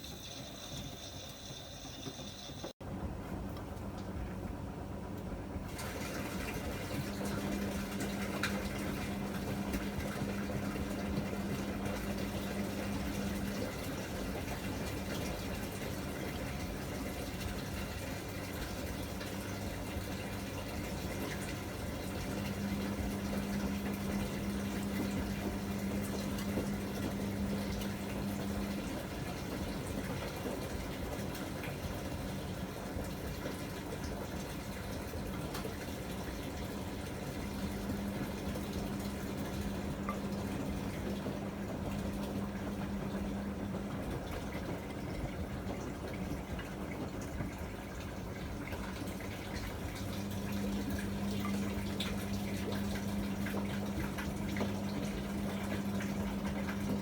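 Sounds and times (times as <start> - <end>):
low machine hum: 0.0 - 57.0
water sloshing in washing machine: 0.0 - 57.0.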